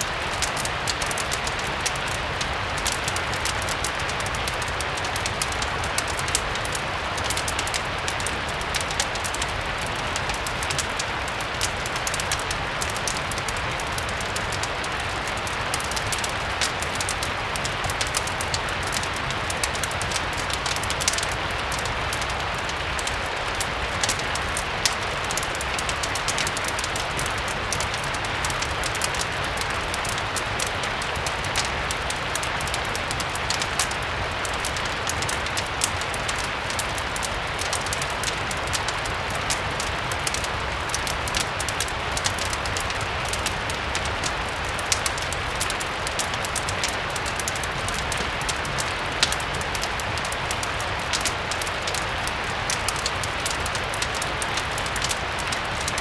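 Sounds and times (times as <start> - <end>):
steady rain hiss: 0.0 - 56.0
wood fireplace crackling and popping: 0.0 - 56.0.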